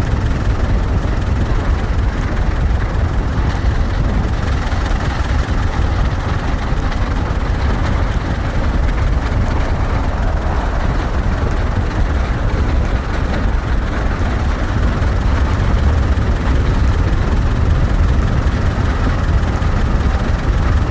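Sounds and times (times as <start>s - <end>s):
vehicle rumbling at speed: 0.0s - 20.9s.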